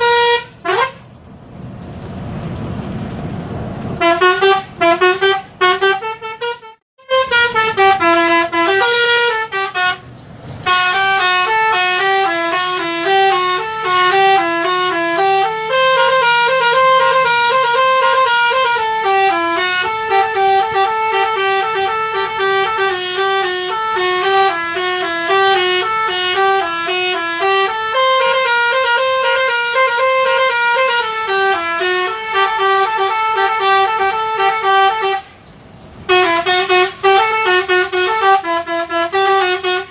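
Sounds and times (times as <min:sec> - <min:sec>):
musical vehicle horn playing tune: 0:00.0 - 0:01.2, 0:03.9 - 0:35.4, 0:36.1 - 0:39.9.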